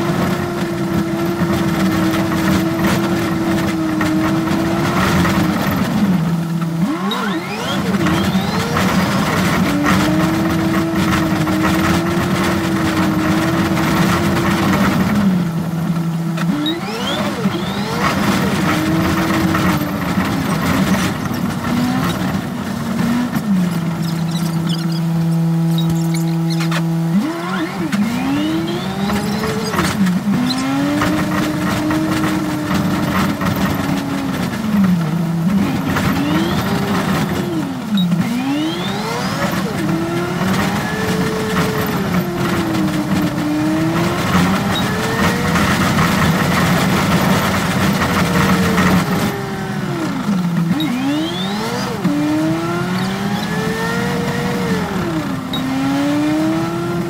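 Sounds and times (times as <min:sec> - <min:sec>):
bus engine revving: 0:00.0 - 0:57.0
road and tyre noise: 0:00.0 - 0:57.0.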